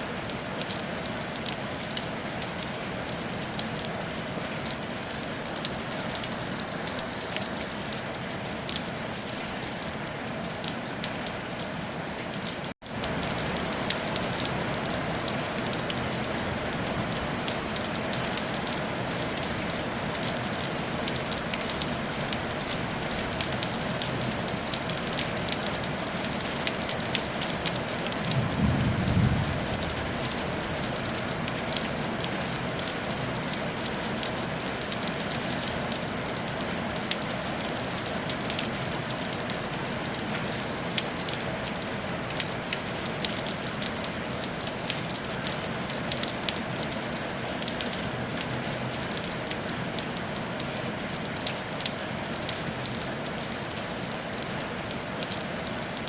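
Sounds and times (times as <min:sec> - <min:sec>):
rain on a tile roof: 0:00.0 - 0:56.0.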